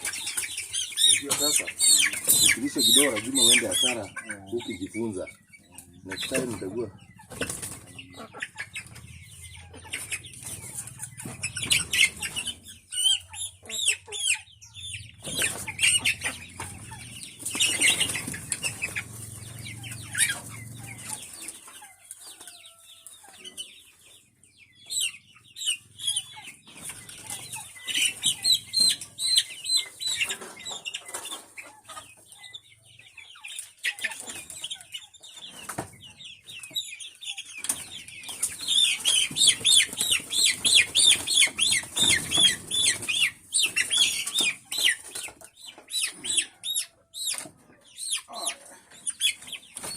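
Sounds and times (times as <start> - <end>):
wings flapping and scuffling: 0.0 - 4.1, 6.2 - 13.4, 15.2 - 23.7, 26.1 - 32.4, 33.4 - 46.6, 48.9 - 49.9
chickens clucking: 0.0 - 49.9.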